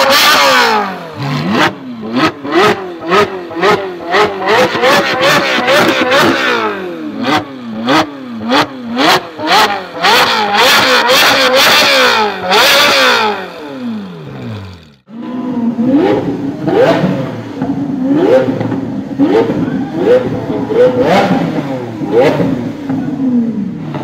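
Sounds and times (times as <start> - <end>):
another car engine rev blips: 0.0 - 24.0
car engine revving: 0.0 - 24.0.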